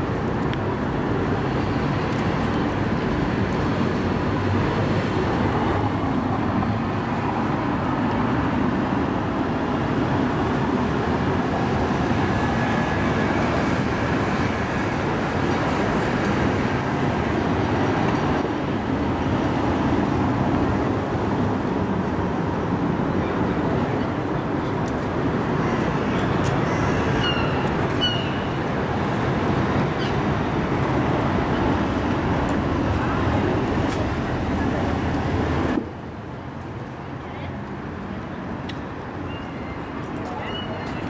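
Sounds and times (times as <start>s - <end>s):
city traffic rumble: 0.0s - 41.0s.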